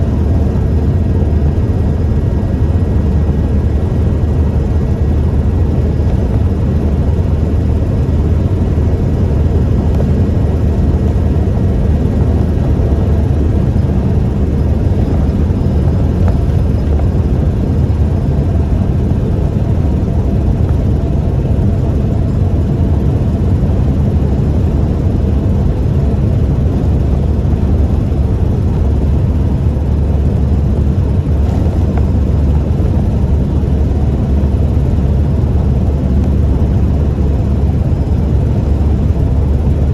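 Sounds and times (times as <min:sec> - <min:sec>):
engine and road noise drone: 0:00.0 - 0:39.9.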